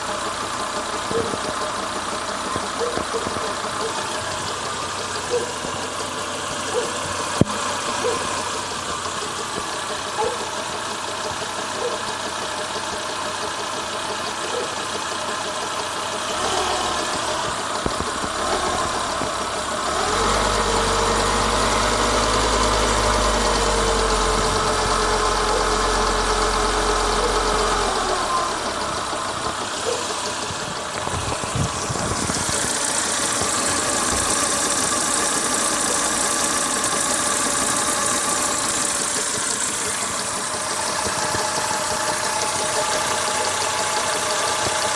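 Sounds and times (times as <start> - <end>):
car engine knocking: 0.0 - 44.9.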